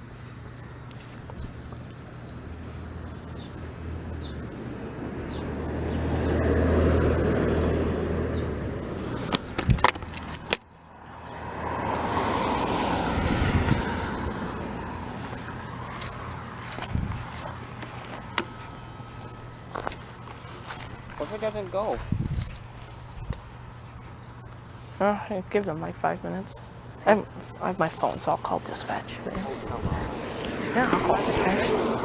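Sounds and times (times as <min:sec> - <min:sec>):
low engine hum: 0:00.0 - 0:32.0
car passing: 0:02.1 - 0:10.2, 0:10.8 - 0:23.0, 0:23.8 - 0:32.0.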